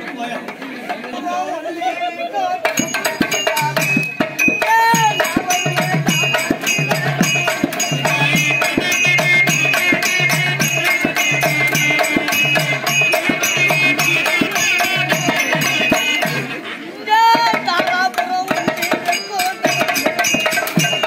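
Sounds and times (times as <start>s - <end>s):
hand drum fast rhythm: 2.6s - 21.0s.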